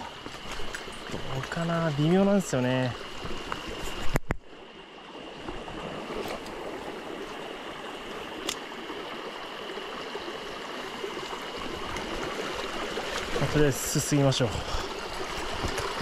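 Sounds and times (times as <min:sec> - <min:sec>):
stream babbling over rocks: 0:00.0 - 0:16.0.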